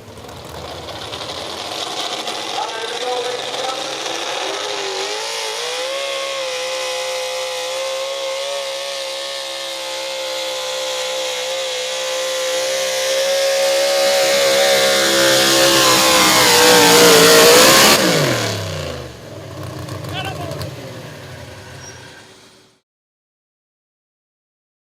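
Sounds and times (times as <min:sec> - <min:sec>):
pulling truck engine at high revs: 0:00.0 - 0:22.8.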